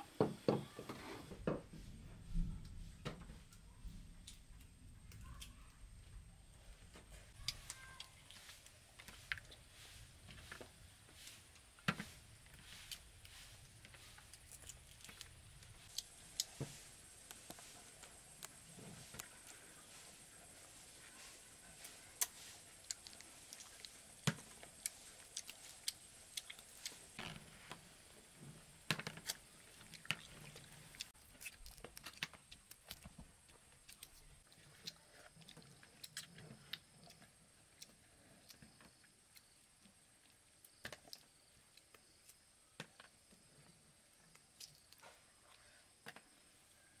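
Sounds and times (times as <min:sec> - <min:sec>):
soft chewing: 0:06.8 - 0:47.0.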